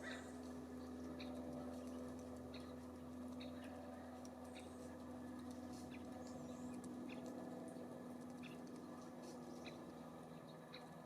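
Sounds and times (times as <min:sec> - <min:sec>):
low background hum: 0:00.0 - 0:11.0
songbirds chirping: 0:00.0 - 0:11.0.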